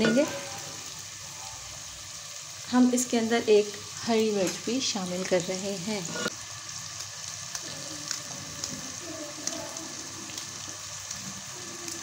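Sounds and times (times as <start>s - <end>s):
masala sizzling in oil: 0.0s - 12.0s.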